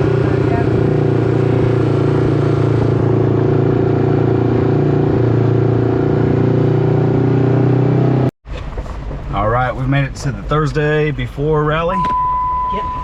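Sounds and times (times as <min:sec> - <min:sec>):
vehicle engine droning: 0:00.0 - 0:10.5.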